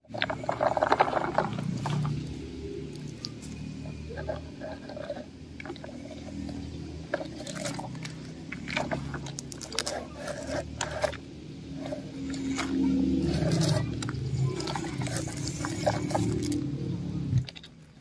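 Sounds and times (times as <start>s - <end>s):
toy truck wheels scraping dirt: 0.0s - 18.0s.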